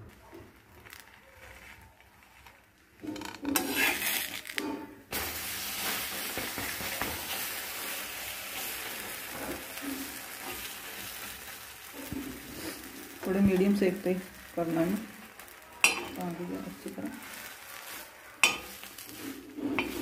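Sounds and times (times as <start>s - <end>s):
butter sizzling on a griddle: 0.0s - 20.0s
steel spatula scraping: 1.2s - 20.0s.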